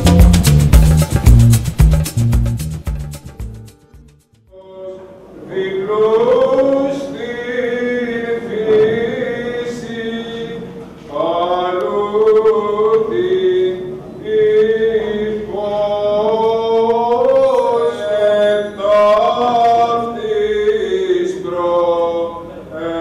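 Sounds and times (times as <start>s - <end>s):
liturgical chant singing: 4.5s - 23.0s.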